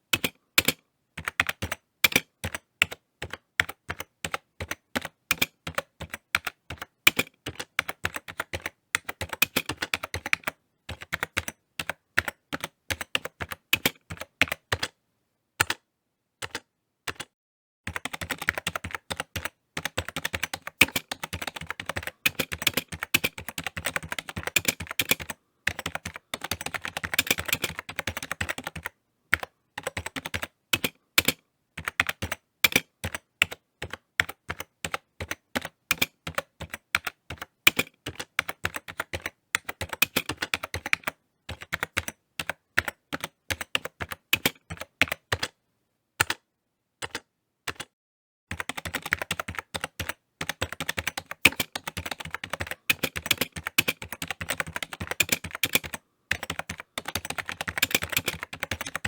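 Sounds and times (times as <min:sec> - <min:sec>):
computer keyboard typing: 0:00.1 - 0:15.0, 0:15.6 - 0:15.8, 0:16.4 - 0:17.3, 0:17.9 - 0:45.6, 0:46.2 - 0:46.4, 0:47.0 - 0:47.9, 0:48.5 - 0:59.0.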